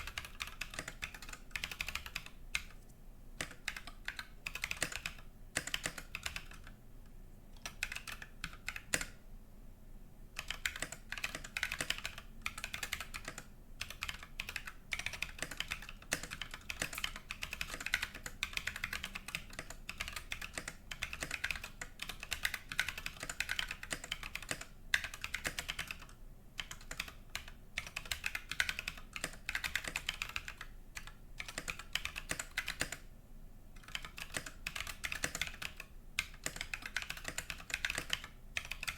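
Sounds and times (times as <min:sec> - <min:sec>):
mechanical keyboard typing: 0:00.0 - 0:02.8, 0:03.4 - 0:06.8, 0:07.6 - 0:09.2, 0:10.4 - 0:33.1, 0:33.8 - 0:38.9.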